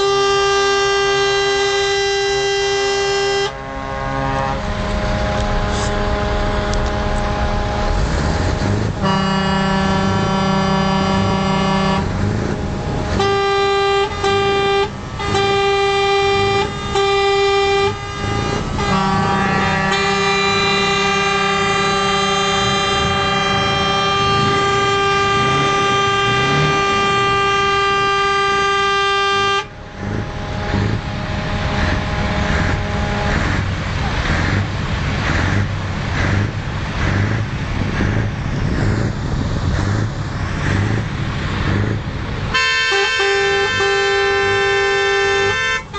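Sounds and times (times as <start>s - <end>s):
truck air horn blasts: 0.0s - 38.2s, 40.6s - 45.9s
diesel engine running: 0.0s - 45.9s.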